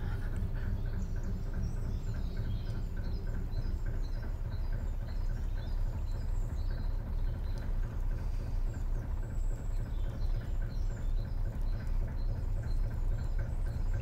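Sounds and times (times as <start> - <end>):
diesel engine rumbling and ticking: 0.0 - 14.0
small birds chirping: 0.0 - 14.0.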